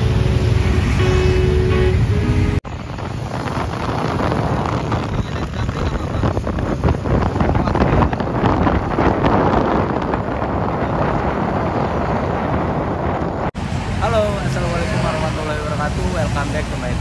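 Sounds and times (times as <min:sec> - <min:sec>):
motorcycle engine rumbling: 0:00.0 - 0:17.0
road noise: 0:00.0 - 0:17.0
wind rushing over microphone: 0:00.0 - 0:17.0.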